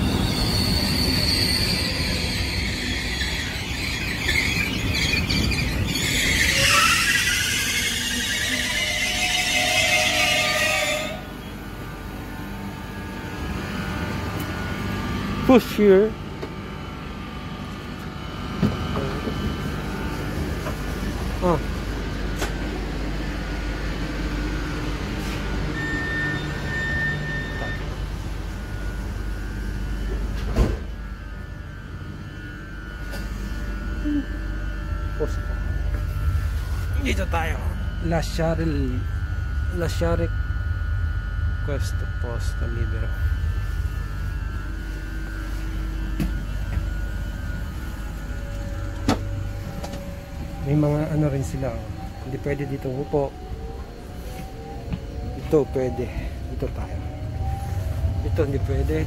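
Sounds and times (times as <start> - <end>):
low hum inside train carriage: 0.0 - 59.0.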